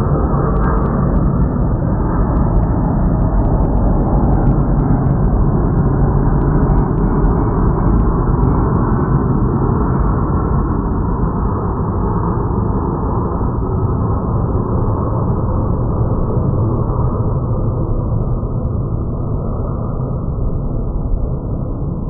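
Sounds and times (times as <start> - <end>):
jet airliner engine noise: 0.0 - 22.0.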